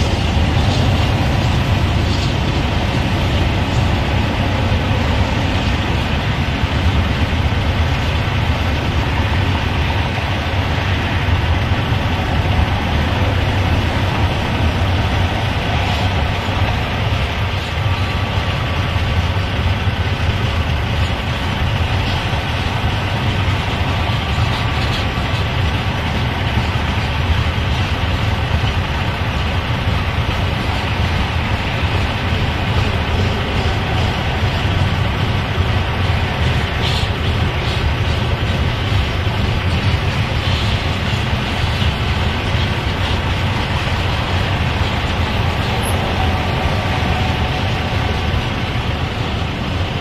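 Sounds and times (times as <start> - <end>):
train wheels rumbling on track: 0.0 - 50.0.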